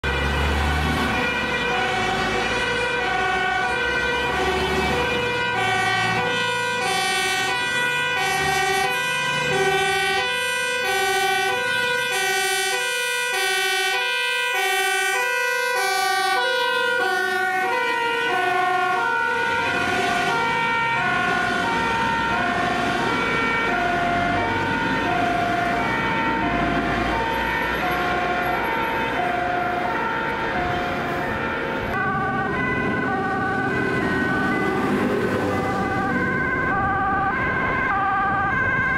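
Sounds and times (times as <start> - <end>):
engine and traffic rumble: 0.0 - 38.9
two-tone siren: 0.0 - 38.9.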